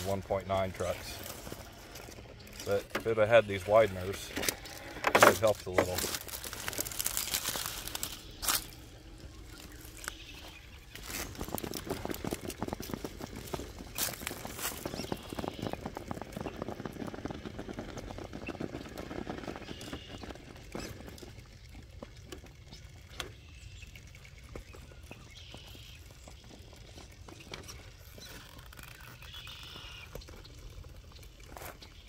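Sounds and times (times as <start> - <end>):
tyres crunching on rock and grit: 0.0 - 32.0.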